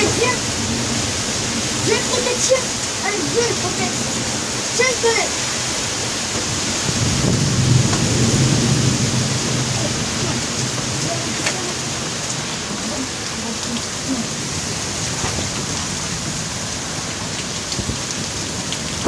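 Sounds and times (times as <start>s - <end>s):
heavy rain pouring: 0.0s - 19.0s
strong wind: 0.0s - 19.0s.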